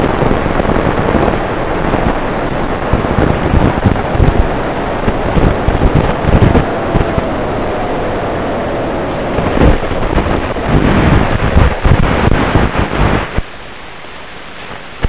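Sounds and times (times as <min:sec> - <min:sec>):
wind rush and buffeting: 0:00.0 - 0:15.0.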